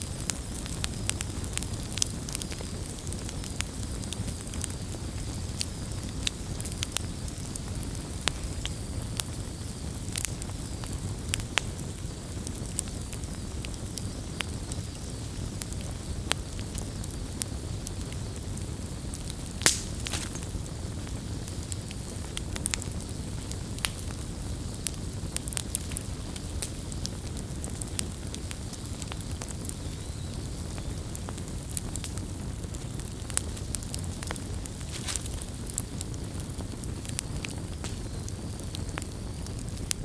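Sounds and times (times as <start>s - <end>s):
burning wood crackling and popping: 0.0s - 40.0s
campfire rumble: 0.0s - 40.0s.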